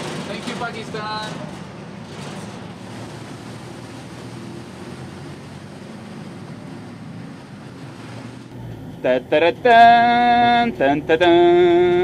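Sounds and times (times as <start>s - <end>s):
vehicle engine and road noise: 0.0s - 12.0s
wind: 0.0s - 12.0s.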